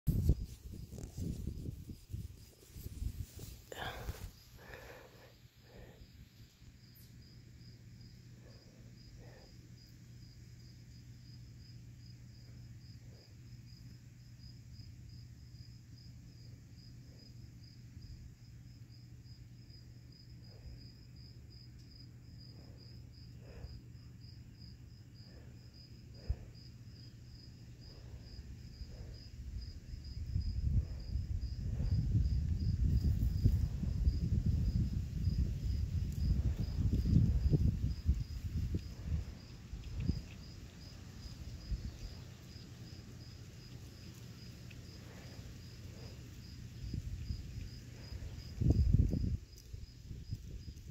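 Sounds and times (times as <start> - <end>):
cricket chirping: 0.2 - 50.9.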